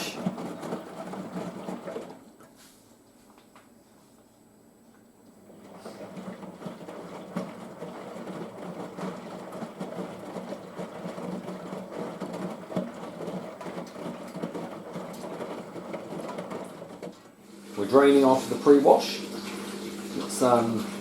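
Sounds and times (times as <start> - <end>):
washing machine drain pump humming: 0.0 - 2.6, 4.9 - 21.0.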